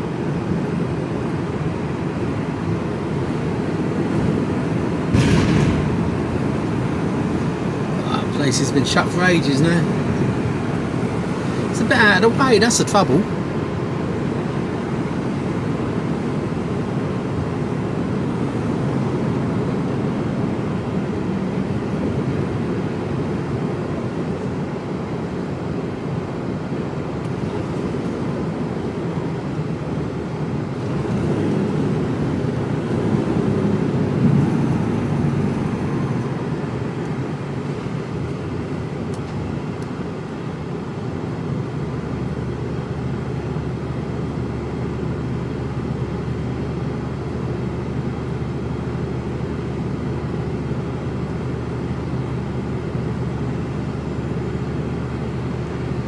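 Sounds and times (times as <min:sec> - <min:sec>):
road noise: 0:00.0 - 0:56.0
truck engine drone: 0:00.0 - 0:56.0.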